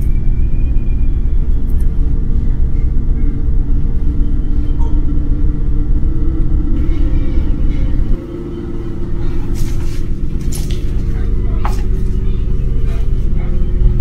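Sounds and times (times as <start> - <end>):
low rumbling drone soundtrack: 0.0 - 14.0.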